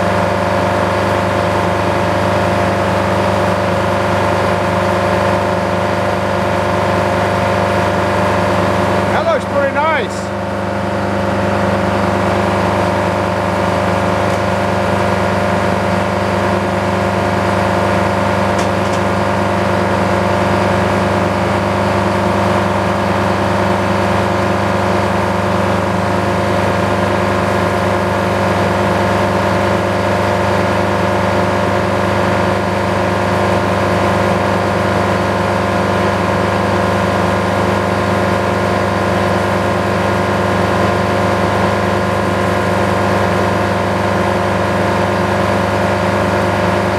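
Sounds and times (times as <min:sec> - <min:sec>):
sawmill engine running: 0:00.1 - 0:46.9.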